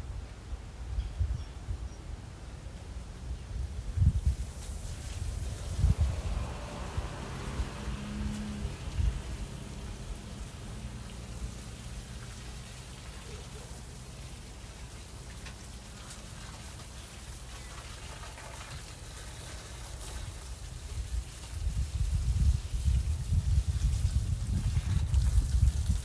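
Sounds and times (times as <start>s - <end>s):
hose water pattering on plants: 3.0s - 26.0s.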